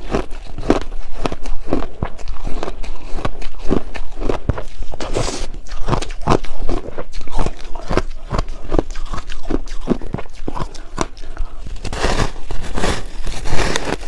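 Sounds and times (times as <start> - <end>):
ice being crunched and chewed: 0.0 - 14.0.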